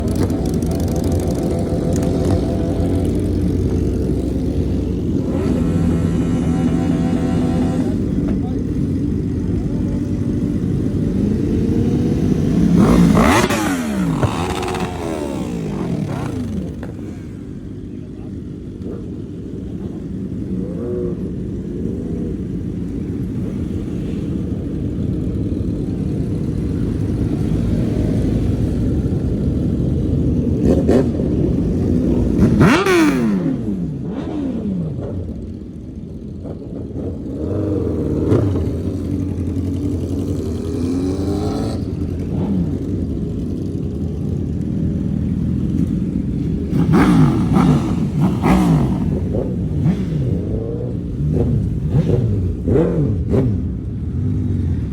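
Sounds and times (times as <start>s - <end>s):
motorcycles revving and passing: 0.0s - 54.9s.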